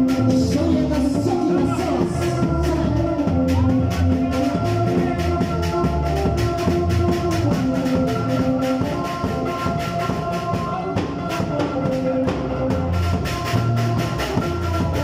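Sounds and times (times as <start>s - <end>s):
electric guitars picking melody: 0.0s - 15.0s
steady drum beat: 0.0s - 15.0s.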